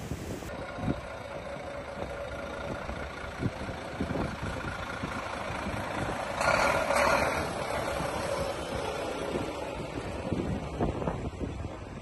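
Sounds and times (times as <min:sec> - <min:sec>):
heavy truck engine running: 0:00.0 - 0:12.0
rushing noise of passing truck: 0:00.0 - 0:12.0.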